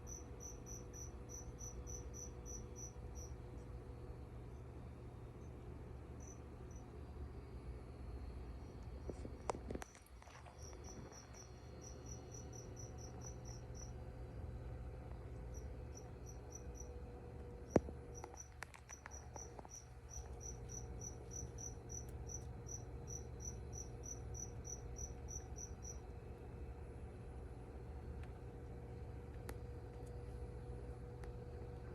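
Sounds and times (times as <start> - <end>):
cricket chirping: 0.0 - 26.4
steady low hum: 0.0 - 31.9.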